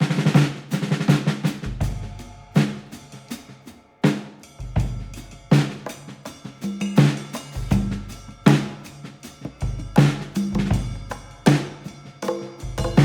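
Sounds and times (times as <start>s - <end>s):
drum-led music with bass: 1.5s - 3.7s, 4.5s - 13.0s.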